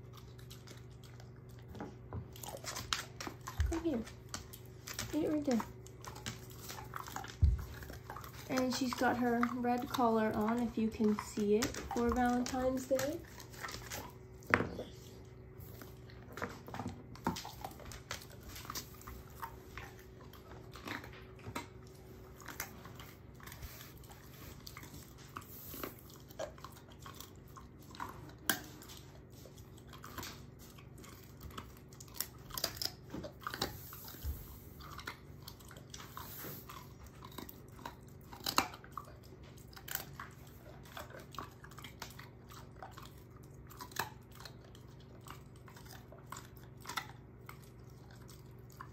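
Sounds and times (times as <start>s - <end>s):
dog chewing and crunching bone: 0.0s - 48.9s.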